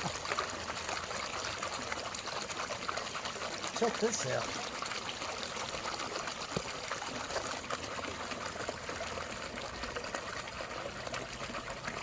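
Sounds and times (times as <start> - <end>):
water trickling in stream: 0.0 - 12.0.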